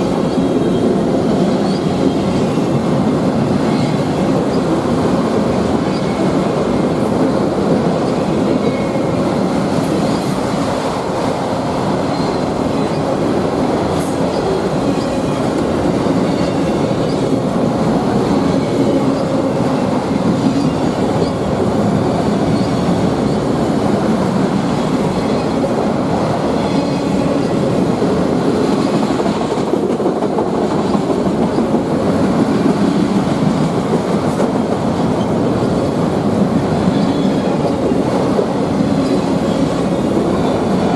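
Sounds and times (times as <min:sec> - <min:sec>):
freight train cars rolling past: 0:00.0 - 0:40.9.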